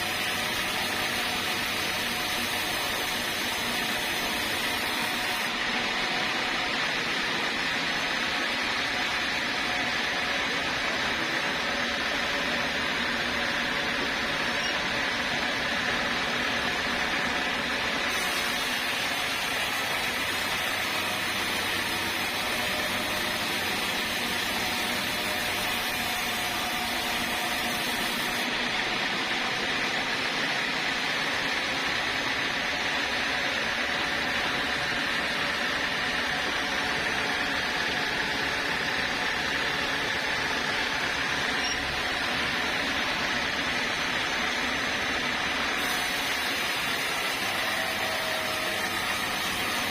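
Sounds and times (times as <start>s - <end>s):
sawmill saw running: 0.0s - 49.9s.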